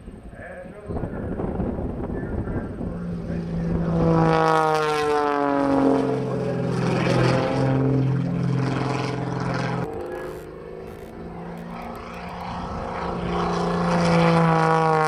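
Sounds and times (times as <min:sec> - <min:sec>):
propeller plane engine running hard: 0:00.0 - 0:15.0.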